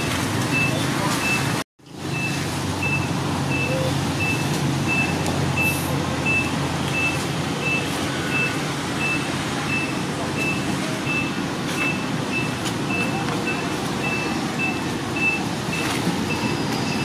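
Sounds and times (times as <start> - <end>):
reversing alarm beeping: 0.0 - 17.0.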